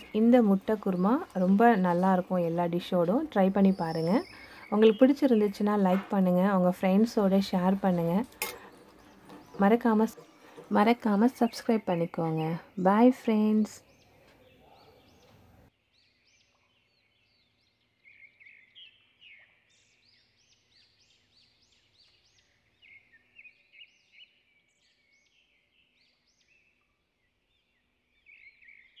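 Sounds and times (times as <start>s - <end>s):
faint birdsong chirping: 0.0s - 29.0s.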